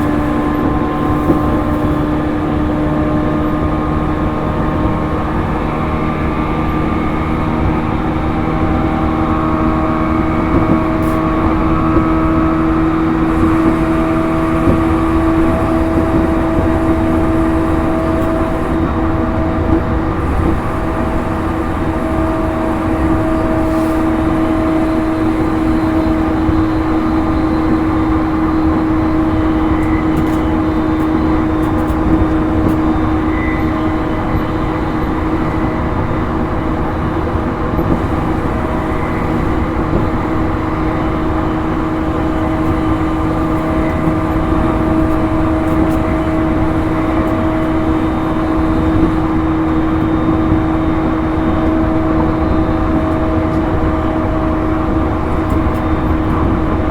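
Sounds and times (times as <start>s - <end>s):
train motor whine: 0.0s - 56.9s
wheels rumbling on rail: 0.0s - 56.9s.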